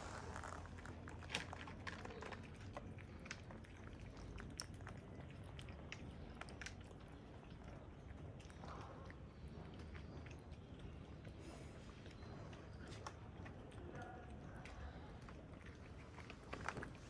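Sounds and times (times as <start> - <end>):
cats chewing food: 0.0 - 17.0.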